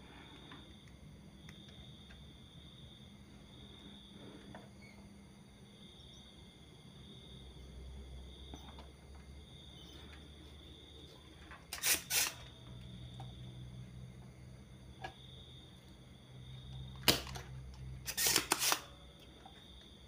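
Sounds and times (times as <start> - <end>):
faint steady high whine: 0.0 - 20.0.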